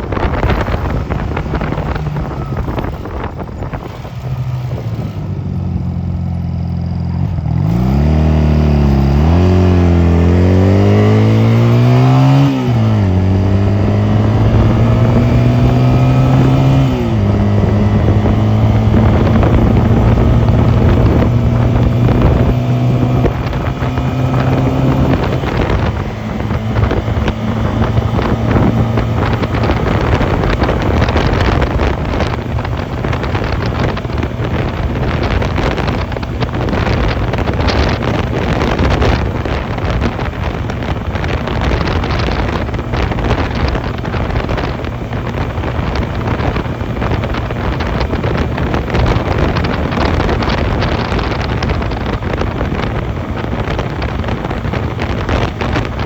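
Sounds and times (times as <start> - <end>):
motorcycle engine accelerating: 0.0 - 56.0
wind noise on microphone: 0.0 - 56.0.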